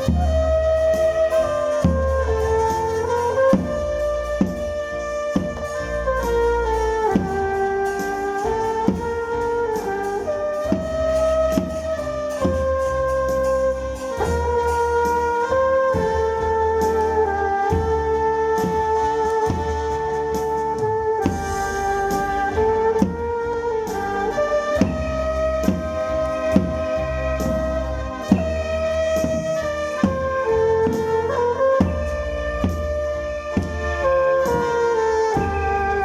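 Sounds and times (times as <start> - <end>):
wind instruments playing melody: 0.0 - 36.0.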